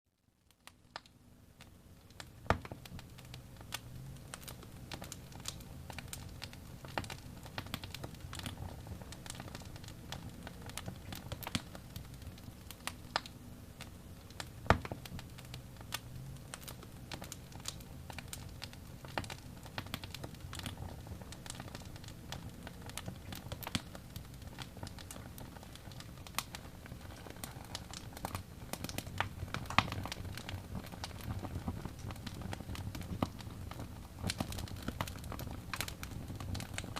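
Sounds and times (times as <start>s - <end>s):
fire pops and crackles: 0.4s - 36.9s
loud fire snap: 0.6s - 36.9s
low fire rumble: 2.0s - 36.9s.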